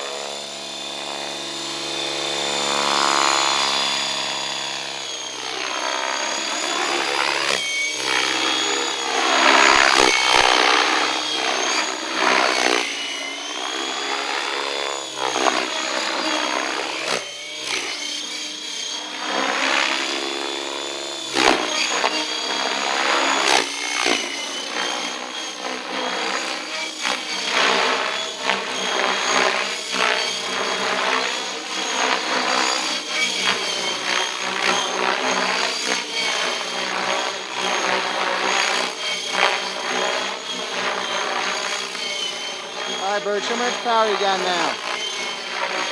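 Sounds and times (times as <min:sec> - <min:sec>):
rc helicopter motor whine: 0:00.0 - 0:45.9.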